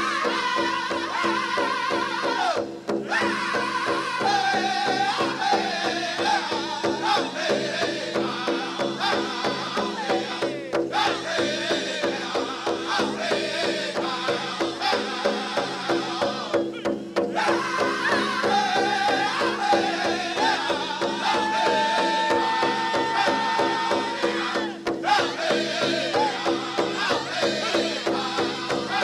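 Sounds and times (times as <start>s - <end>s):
drum group singing: 0.0s - 29.0s
steady beat on a big drum: 0.0s - 29.0s.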